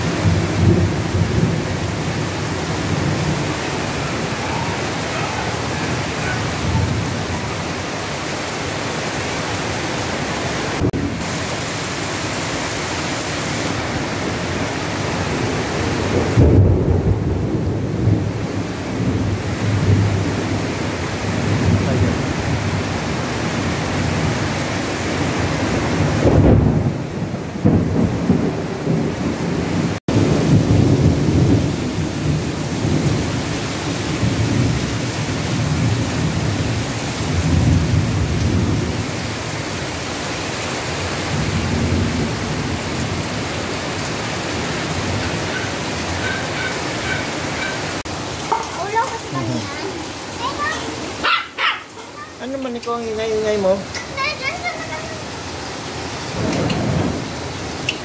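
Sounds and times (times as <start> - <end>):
thunder rumbling: 0.0 - 8.1, 10.8 - 24.6, 25.2 - 39.5, 41.2 - 51.7, 56.1 - 57.9
heavy rain pouring: 0.0 - 58.0.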